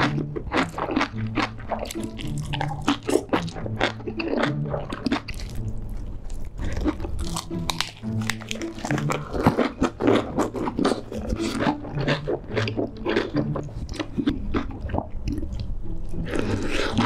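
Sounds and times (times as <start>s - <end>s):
crisp crunching while chewing: 0.0s - 17.0s.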